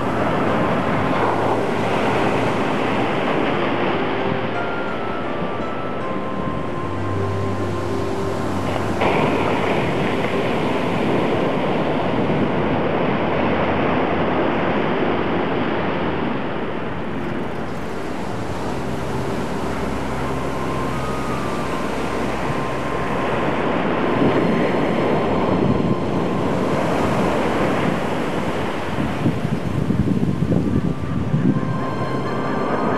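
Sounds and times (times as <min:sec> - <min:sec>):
waves breaking on a beach: 0:00.0 - 0:32.9.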